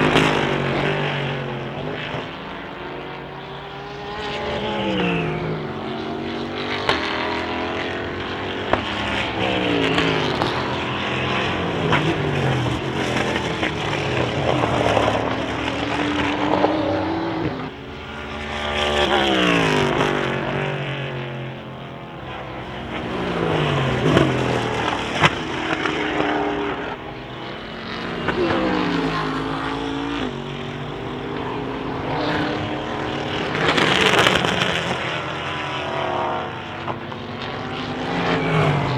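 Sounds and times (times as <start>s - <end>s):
race cars passing at speed: 0.0s - 38.9s.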